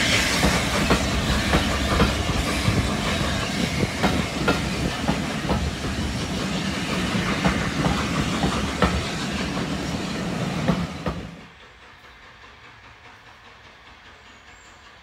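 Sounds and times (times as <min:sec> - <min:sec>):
train coaches rumbling past: 0:00.0 - 0:15.0.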